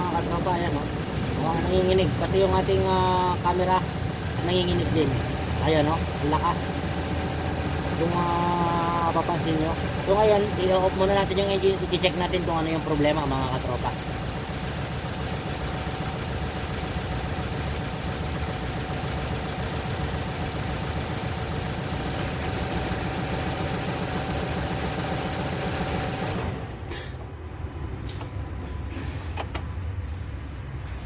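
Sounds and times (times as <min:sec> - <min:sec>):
engine idling rough: 0:00.0 - 0:26.8.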